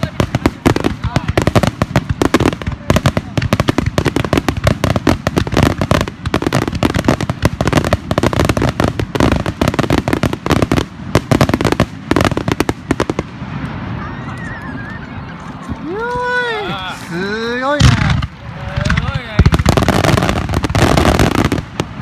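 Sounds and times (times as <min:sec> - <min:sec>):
fireworks bangs and crackling pops: 0:00.0 - 0:22.0.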